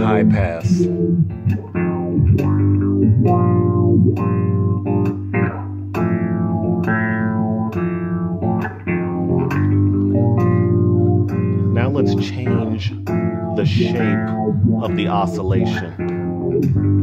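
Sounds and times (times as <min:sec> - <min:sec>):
filtered electric bass line: 0:00.0 - 0:17.0.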